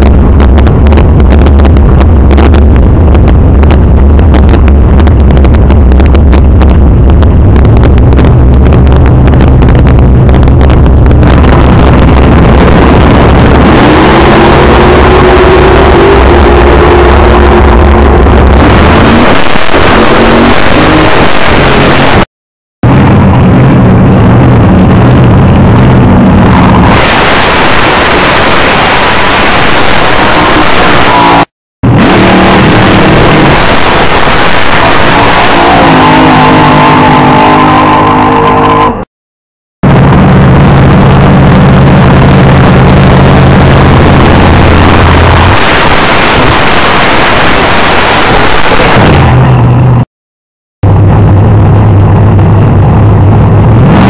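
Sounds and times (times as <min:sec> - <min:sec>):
drag car engine running loud: 0:00.0 - 0:39.0, 0:39.8 - 0:50.0, 0:50.8 - 0:54.0.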